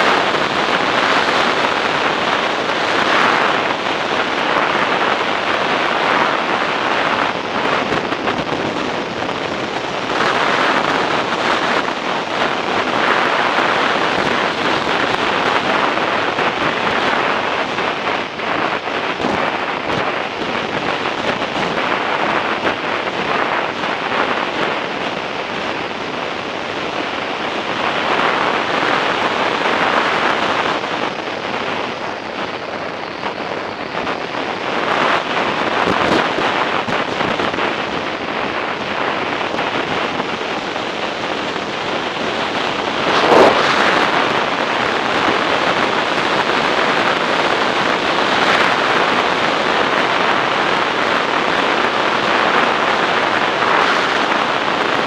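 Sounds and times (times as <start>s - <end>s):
motorcycle road noise: 0.0s - 55.0s
wind rushing over microphone: 0.0s - 55.0s.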